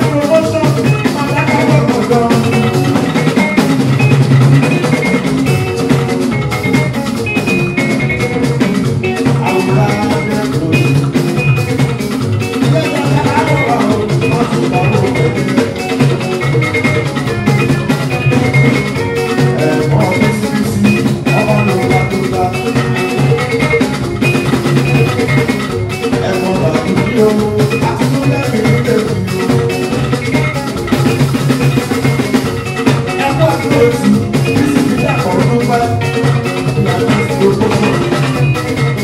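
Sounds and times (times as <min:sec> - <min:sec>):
bass guitar: 0:00.0 - 0:39.0
drums and percussion: 0:00.0 - 0:39.0
electric guitar: 0:00.0 - 0:39.0.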